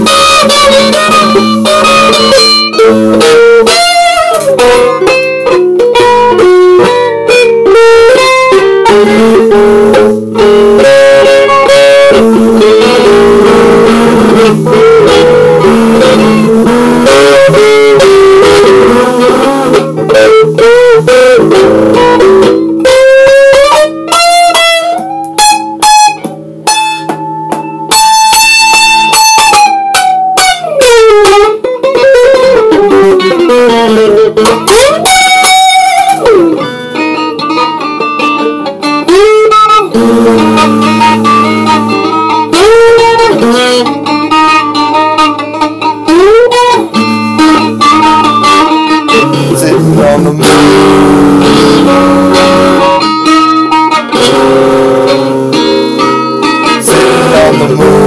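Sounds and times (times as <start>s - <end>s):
guitar music: 0.0s - 58.0s.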